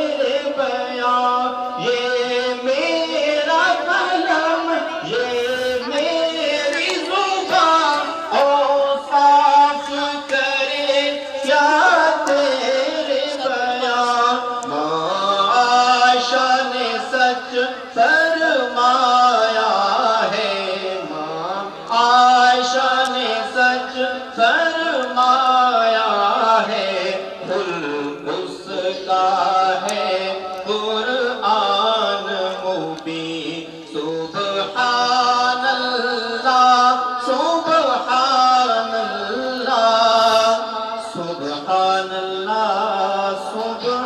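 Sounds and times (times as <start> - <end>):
man singing: 0.0 - 44.0.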